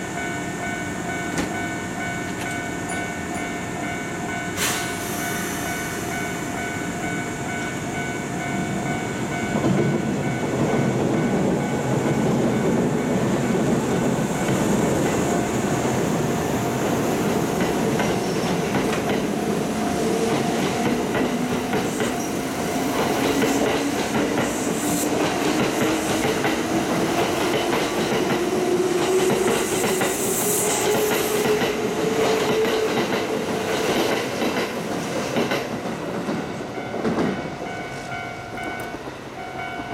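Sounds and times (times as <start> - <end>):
rising train tone: 0.0 - 39.9.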